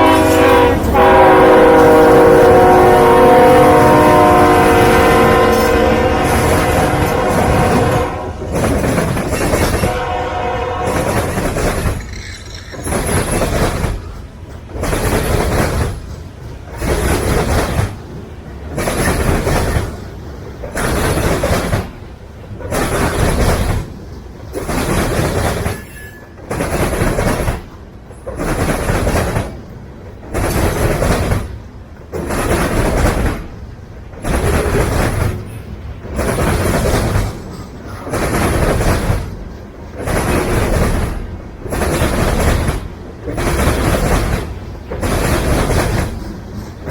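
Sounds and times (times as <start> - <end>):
freight train cars rolling on rails: 0.0 - 46.9.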